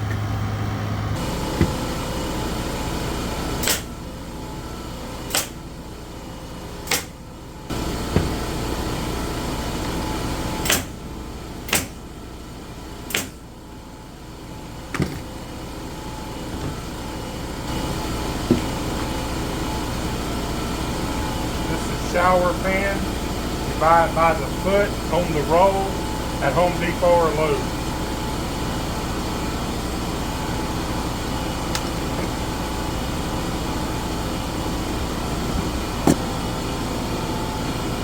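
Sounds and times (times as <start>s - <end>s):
steady machine hum: 0.0s - 38.0s.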